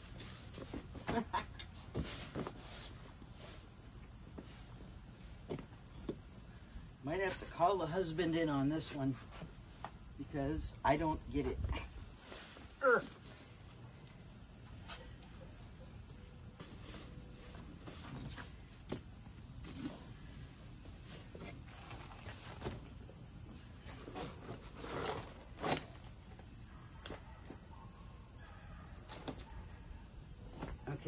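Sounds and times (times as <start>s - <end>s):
high-pitched insect chorus: 0.1s - 31.0s.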